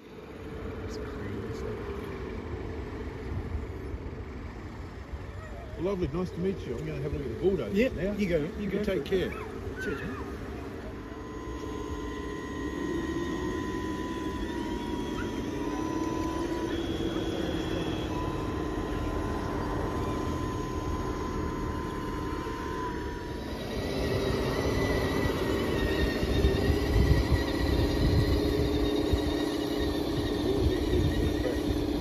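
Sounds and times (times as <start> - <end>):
low drone: 0.0 - 32.0
small electric motors whining: 0.0 - 32.0
steady motor hum: 0.0 - 32.0.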